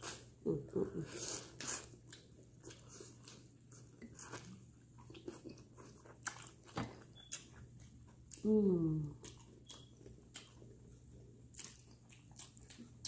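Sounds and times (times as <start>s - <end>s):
crunchy chewing: 1.2s - 8.4s, 9.2s - 13.0s.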